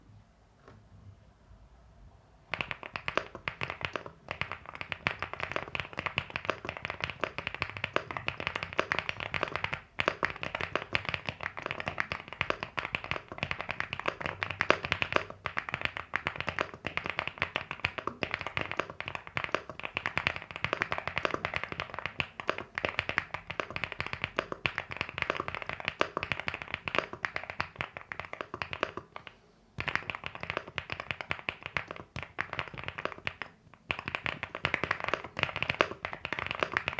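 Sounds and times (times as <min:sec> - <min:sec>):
mechanical keyboard typing: 0:02.5 - 0:36.9.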